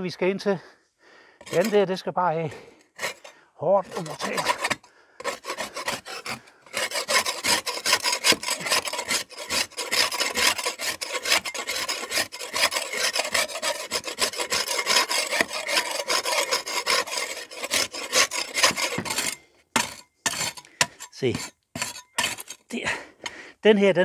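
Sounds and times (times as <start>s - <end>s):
metal tool scraping render: 1.4s - 2.0s, 2.6s - 23.4s.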